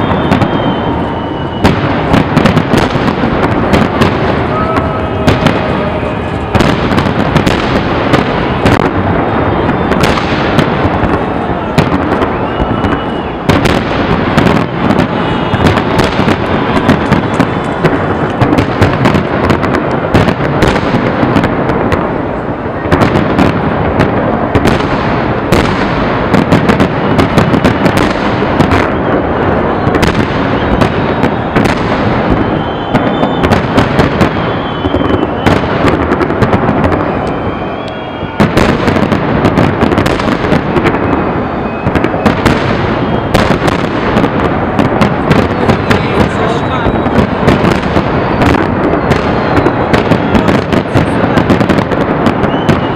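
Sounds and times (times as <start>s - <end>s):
firework shells bursting: 0.0s - 22.1s, 23.0s - 52.9s
continuous loud din: 0.0s - 52.9s.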